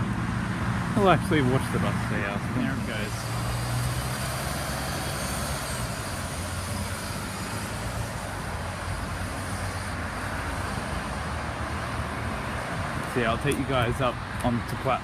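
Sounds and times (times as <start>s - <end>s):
bus engine hum: 0.0s - 15.0s
tyre and road noise: 0.0s - 15.0s.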